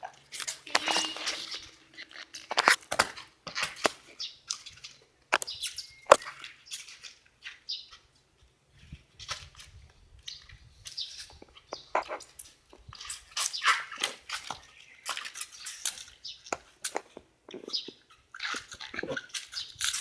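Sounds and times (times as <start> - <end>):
footsteps scuffing and tapping: 0.3 - 18.0.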